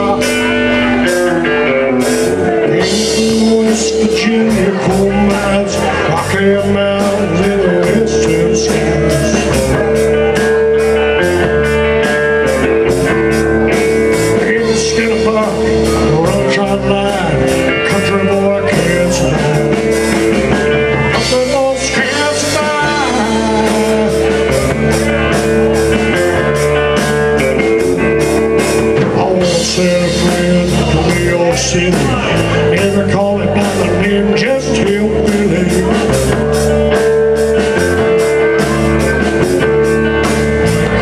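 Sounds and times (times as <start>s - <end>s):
lead guitar: 0.0s - 41.0s
live country-rock band: 0.0s - 41.0s.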